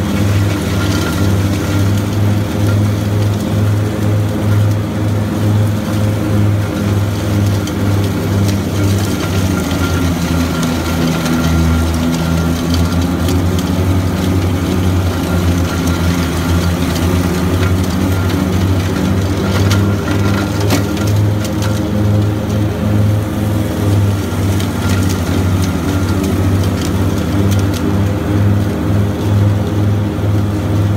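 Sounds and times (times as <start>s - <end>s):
blower drawing up leaves: 0.0s - 30.9s
mower diesel engine running: 0.0s - 30.9s.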